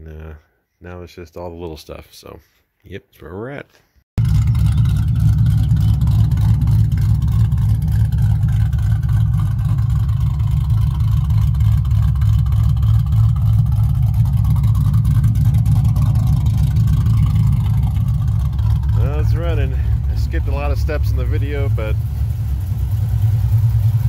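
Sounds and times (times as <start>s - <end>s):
car engine idling: 4.2s - 24.0s.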